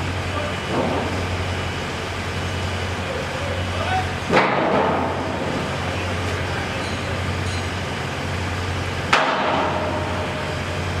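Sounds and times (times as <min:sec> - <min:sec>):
low construction rumble and hum: 0:00.0 - 0:11.0.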